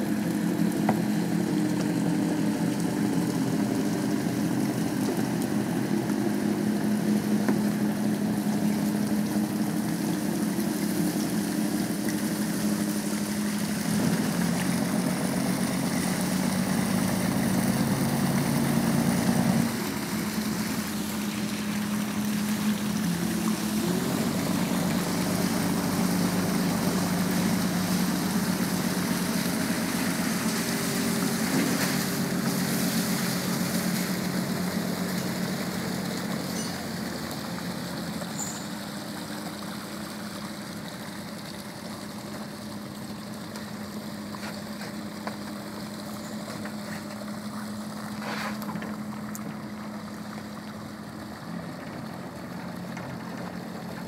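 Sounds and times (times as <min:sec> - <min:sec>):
boat diesel engine running: 0:00.0 - 0:54.0
water washing along hull: 0:00.0 - 0:54.0.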